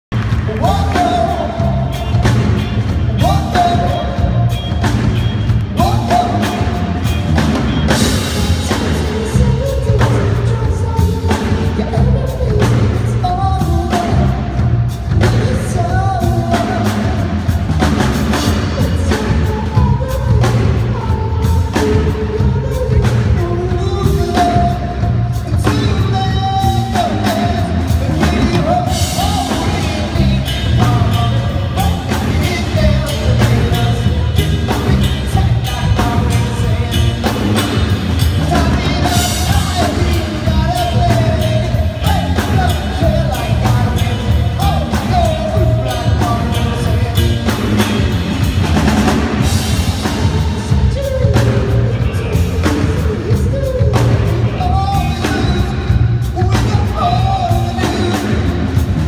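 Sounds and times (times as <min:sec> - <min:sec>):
bass guitar: 0:00.0 - 0:59.0
drum kit beat: 0:00.0 - 0:59.0
electric guitar: 0:00.1 - 0:59.0
man singing: 0:00.1 - 0:59.0.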